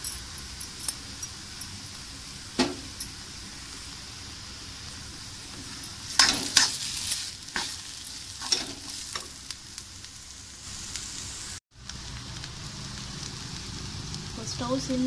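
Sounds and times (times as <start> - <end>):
paste sizzling in hot oil: 0.2 - 15.0.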